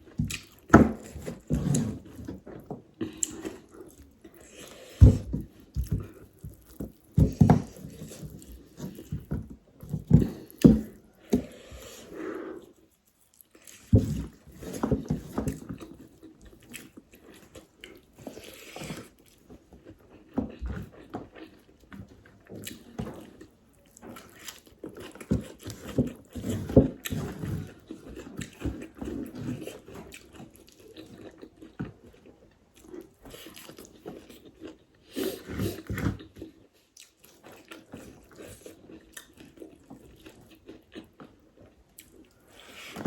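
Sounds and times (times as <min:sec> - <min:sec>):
wet chewing and lip-smacking: 0:00.0 - 0:00.7, 0:02.6 - 0:14.5, 0:15.5 - 0:43.0
food crunching: 0:00.0 - 0:43.0.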